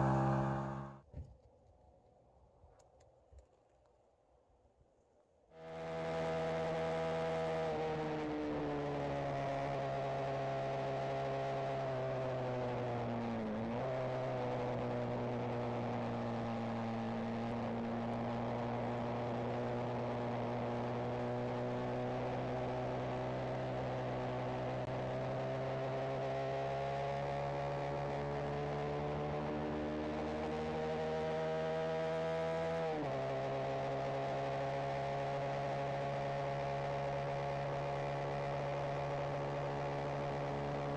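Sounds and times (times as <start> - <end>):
motorcycle engine while riding: 0.0 - 1.0, 5.6 - 40.9.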